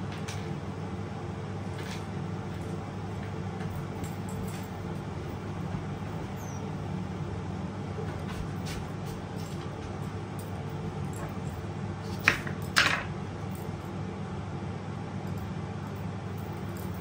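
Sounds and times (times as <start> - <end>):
appliance humming: 0.0 - 17.0.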